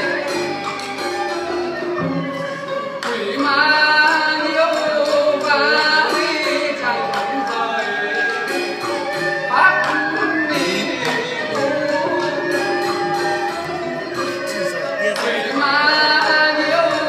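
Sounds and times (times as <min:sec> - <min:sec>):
instrumental accompaniment: 0:00.0 - 0:17.0
person singing: 0:02.4 - 0:17.0.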